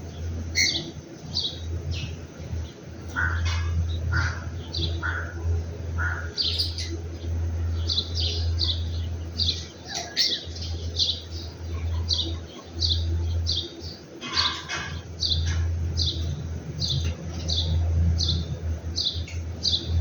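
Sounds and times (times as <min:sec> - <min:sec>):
small birds chirping: 0:00.0 - 0:20.0
steady low hum: 0:00.0 - 0:20.0
low bird calls: 0:00.1 - 0:02.2, 0:03.1 - 0:20.0.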